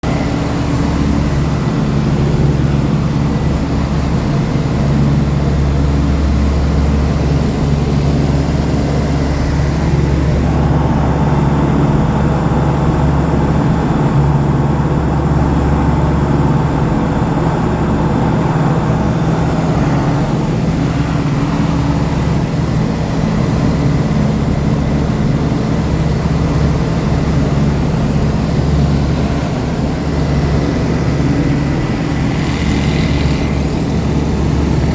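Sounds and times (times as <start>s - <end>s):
light aircraft engine droning: 0.0s - 34.9s.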